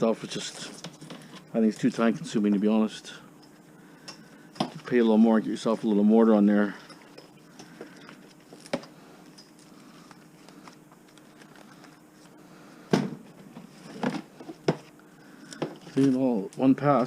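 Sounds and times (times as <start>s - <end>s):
wire stripper machine humming: 0.0s - 17.0s.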